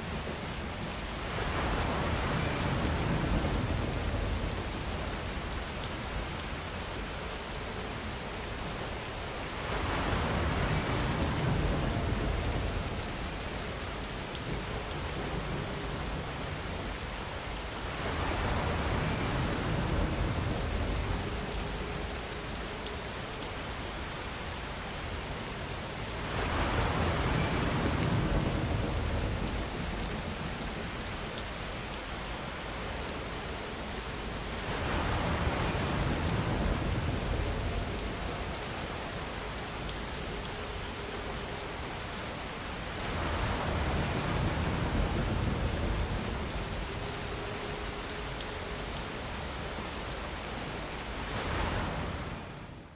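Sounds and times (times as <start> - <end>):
heavy rain hiss: 0.0 - 52.9.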